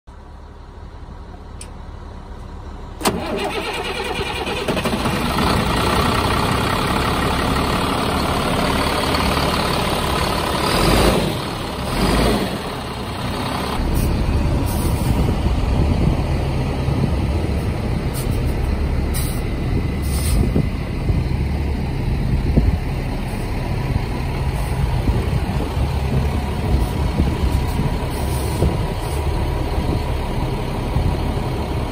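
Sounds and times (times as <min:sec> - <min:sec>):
diesel truck engine idling: 0:00.1 - 0:31.9.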